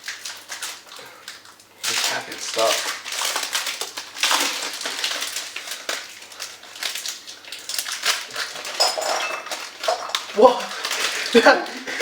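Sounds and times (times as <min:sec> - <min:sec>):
chocolate bars breaking: 0:00.0 - 0:12.0
wrapper crinkling: 0:00.0 - 0:12.0.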